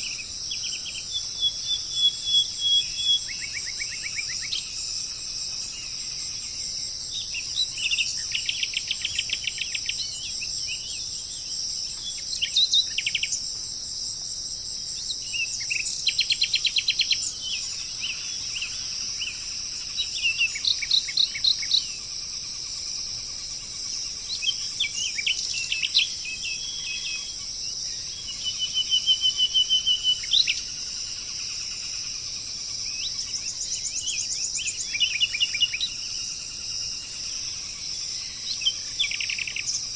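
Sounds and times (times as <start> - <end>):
songbird singing trills: 0.0 - 13.6, 14.6 - 39.9
high-pitched insect buzz: 0.0 - 39.9.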